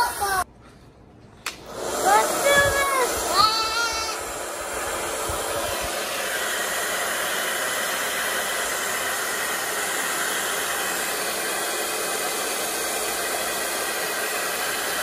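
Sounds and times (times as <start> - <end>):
hair dryer blowing: 0.0 - 0.4, 1.5 - 15.0.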